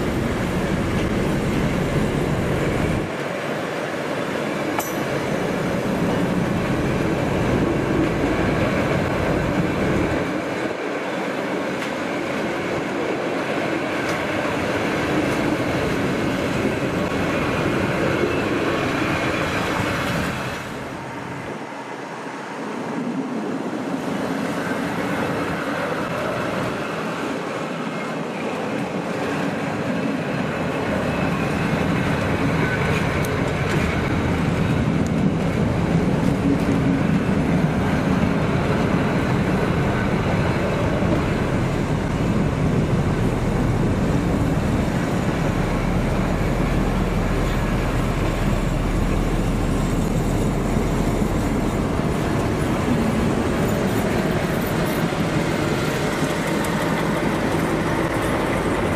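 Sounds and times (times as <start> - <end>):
diesel locomotive engine running: 0.0 - 58.9
rail and wheel noise: 0.0 - 58.9.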